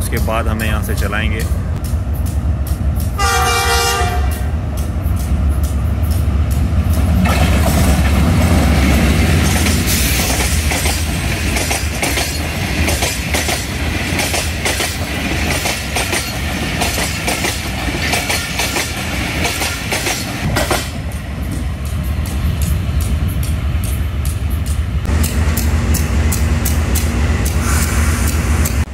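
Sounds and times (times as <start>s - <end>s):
train passing: 0.0s - 28.9s.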